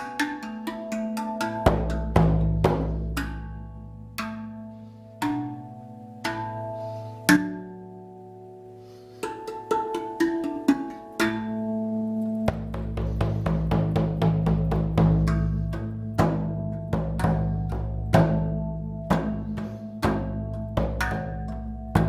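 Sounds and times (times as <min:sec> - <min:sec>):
steel tongue drum notes ringing: 0:00.0 - 0:22.0.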